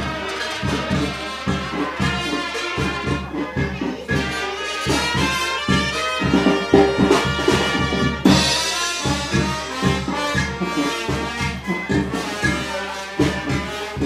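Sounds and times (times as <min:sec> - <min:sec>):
brass band playing dance music: 0:00.0 - 0:14.0
cymbal crash: 0:00.0 - 0:14.0.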